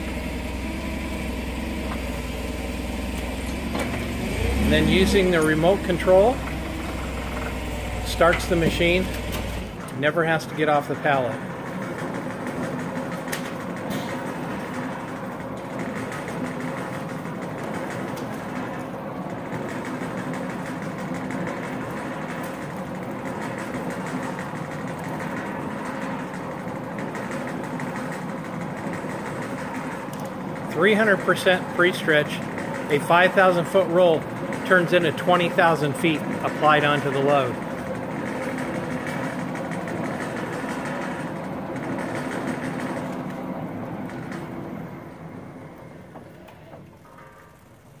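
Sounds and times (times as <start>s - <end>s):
faint machine whine: 0.0s - 48.0s
wrapping machine humming: 0.0s - 48.0s.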